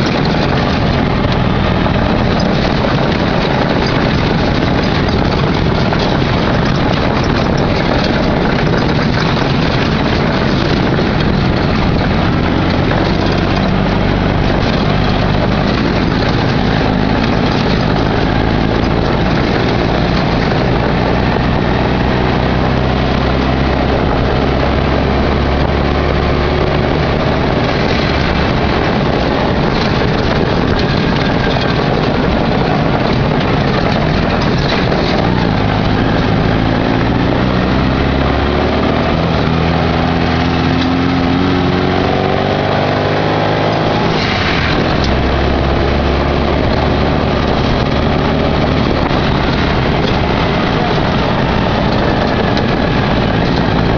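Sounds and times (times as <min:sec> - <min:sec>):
buggy engine running: 0:00.0 - 0:53.9
rattling: 0:00.0 - 0:53.9
wind noise: 0:00.0 - 0:53.9.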